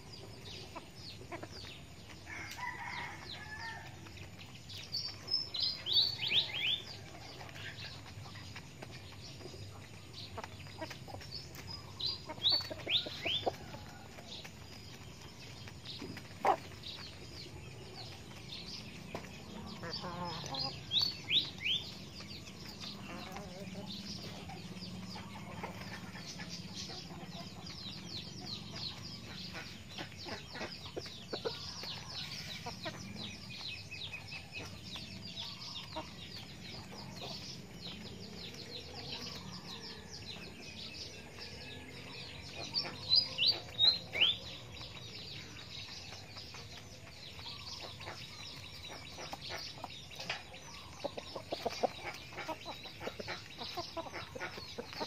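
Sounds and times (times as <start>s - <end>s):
chickens pecking grain: 0.0s - 55.0s
chickens clucking softly: 0.1s - 55.0s.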